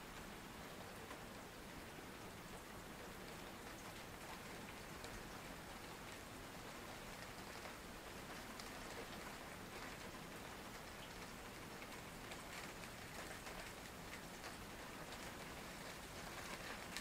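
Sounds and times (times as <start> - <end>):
heavy rain falling: 0.2 - 17.0.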